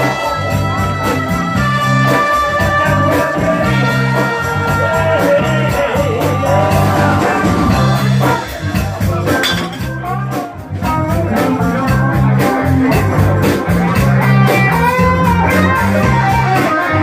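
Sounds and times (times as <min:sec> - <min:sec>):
live band music: 0:00.0 - 0:17.0
person singing: 0:00.0 - 0:17.0.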